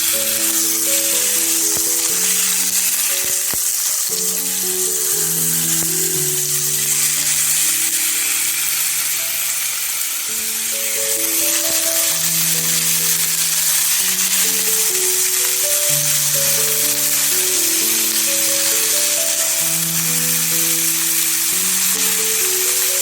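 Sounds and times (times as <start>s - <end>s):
background music with held notes: 0.0s - 23.0s
food sizzling in hot oil: 0.0s - 23.0s.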